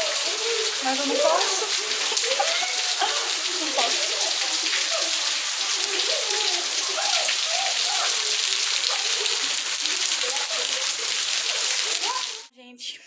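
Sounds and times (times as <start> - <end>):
faint voices: 0.0 - 12.5
steady rain falling: 0.0 - 12.5.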